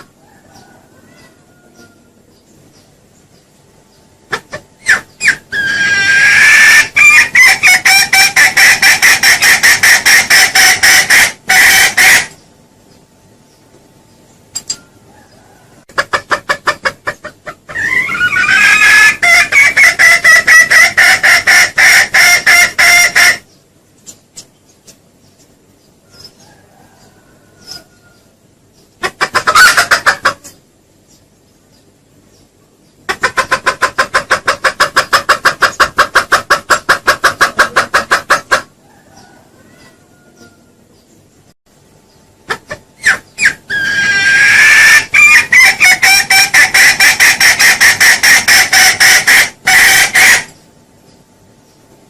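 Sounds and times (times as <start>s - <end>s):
junglefowl clucking: 0.0s - 2.8s, 4.3s - 12.4s, 15.0s - 25.1s, 26.0s - 30.6s, 33.0s - 41.0s, 42.4s - 50.6s.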